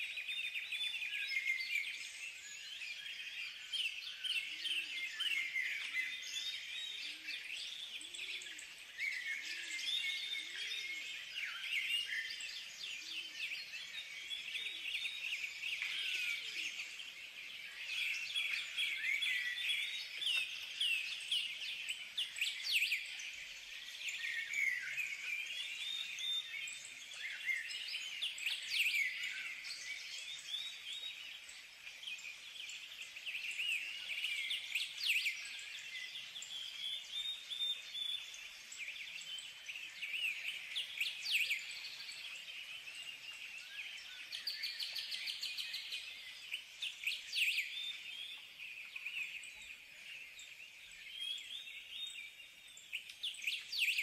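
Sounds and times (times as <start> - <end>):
birds chirping: 0.1 - 54.0.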